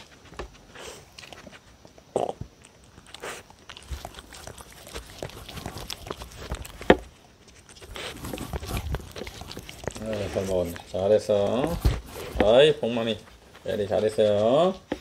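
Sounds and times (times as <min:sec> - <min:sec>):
dogs chewing and crunching: 0:00.0 - 0:15.0.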